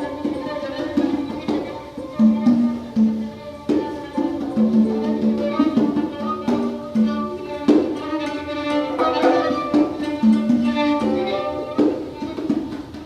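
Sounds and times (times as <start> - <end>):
acoustic ensemble improvising: 0.0 - 13.0.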